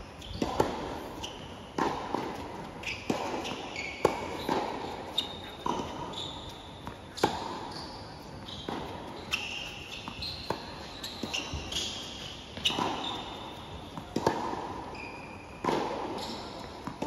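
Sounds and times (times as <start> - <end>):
tennis shoes squeaking: 0.0 - 17.0
racket hitting tennis ball: 0.2 - 15.0, 15.6 - 17.0
tennis ball bouncing: 0.2 - 17.0.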